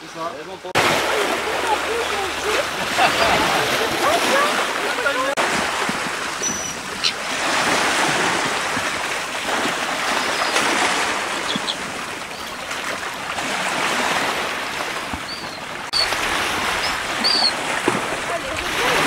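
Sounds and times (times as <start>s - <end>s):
small waves lapping on rocks: 0.0s - 19.0s.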